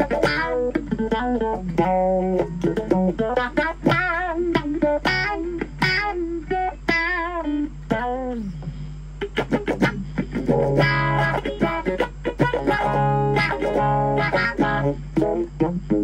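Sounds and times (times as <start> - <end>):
electric guitar with wah effect: 0.0 - 16.0
steady low hum: 0.0 - 16.0.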